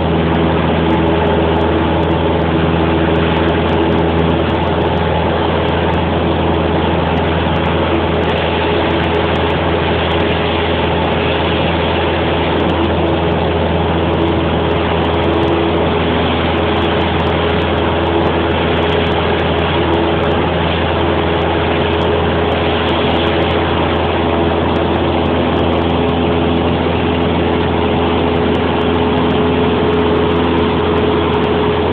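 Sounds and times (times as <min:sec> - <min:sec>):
propeller plane engine running: 0:00.0 - 0:31.9.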